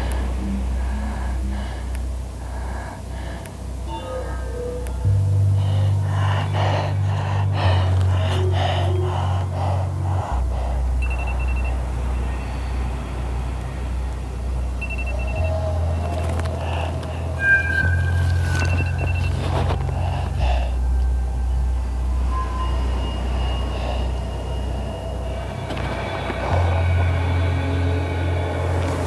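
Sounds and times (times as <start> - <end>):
breathy gasping: 0.0 - 13.0, 14.8 - 27.3
low droning music: 0.0 - 29.0.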